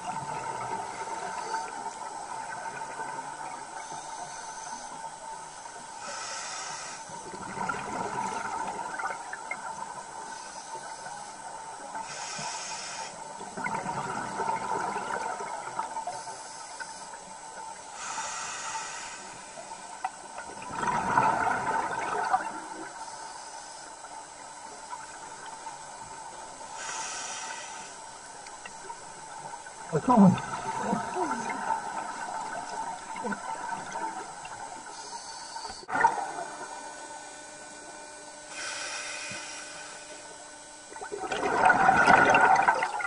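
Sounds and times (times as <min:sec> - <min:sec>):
water hissing and bubbling: 0:00.0 - 0:43.0.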